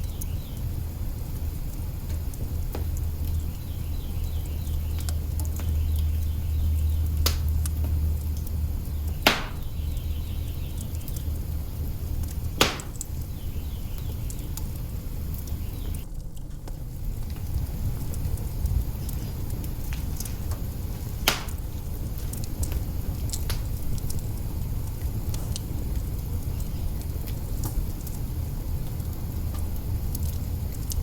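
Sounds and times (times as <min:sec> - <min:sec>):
burning wood popping: 0:00.0 - 0:31.0
log fire crackling and hissing: 0:00.0 - 0:31.0.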